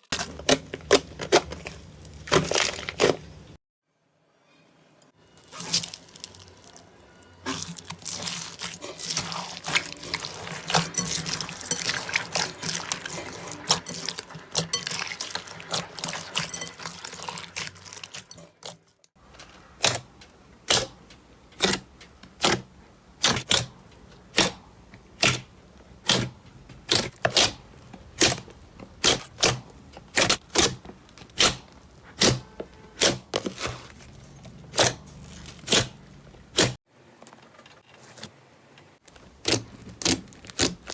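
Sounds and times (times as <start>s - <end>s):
slime squished and kneaded: 0.0s - 3.5s, 5.4s - 18.8s, 19.6s - 36.8s, 39.0s - 40.9s.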